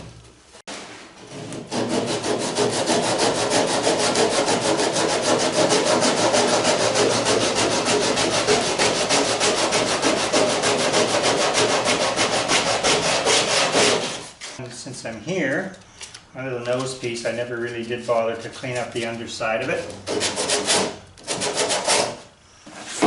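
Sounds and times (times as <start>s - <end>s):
hand tool scraping wood: 0.7s - 14.6s, 17.7s - 23.0s.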